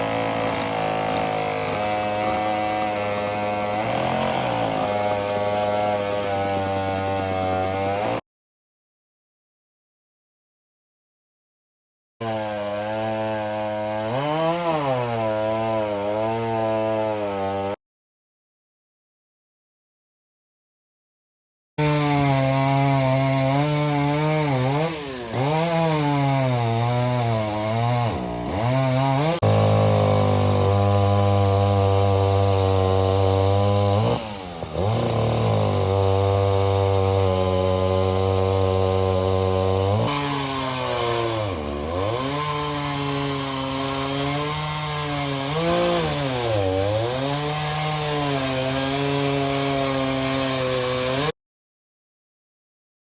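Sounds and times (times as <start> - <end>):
chainsaw revving and cutting wood: 0.0 - 8.2, 12.2 - 17.8, 21.8 - 51.4.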